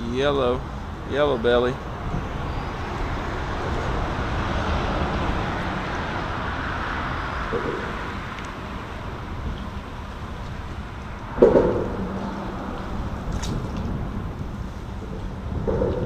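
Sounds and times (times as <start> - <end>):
traffic rumbling overhead: 0.0 - 16.0.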